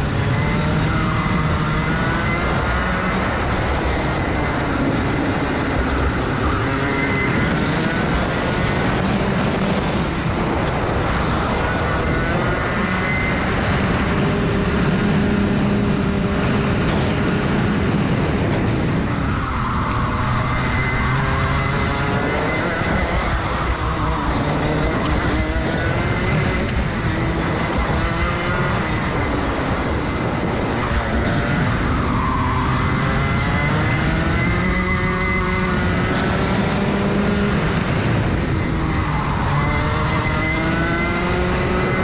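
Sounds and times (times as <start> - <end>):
kart engine revving: 0.0 - 42.0.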